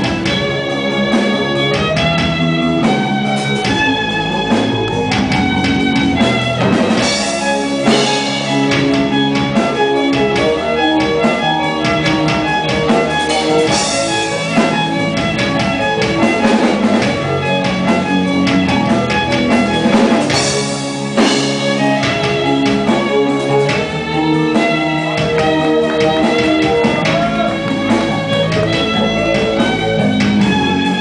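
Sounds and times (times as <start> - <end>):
drums: 0.0 - 31.0
guitar: 0.0 - 31.0
violin melody: 0.0 - 31.0.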